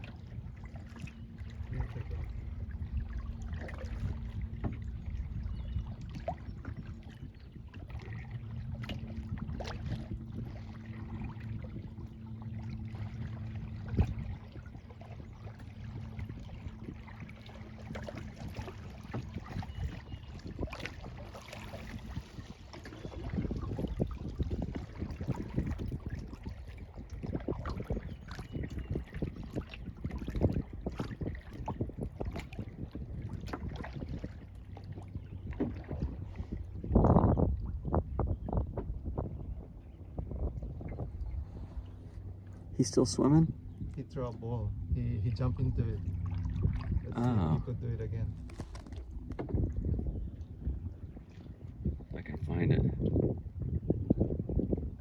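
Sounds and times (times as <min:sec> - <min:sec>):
low steady hum: 0:00.0 - 0:22.3, 0:32.3 - 0:55.0
paddle strokes splashing water: 0:00.0 - 0:39.8, 0:45.5 - 0:53.4.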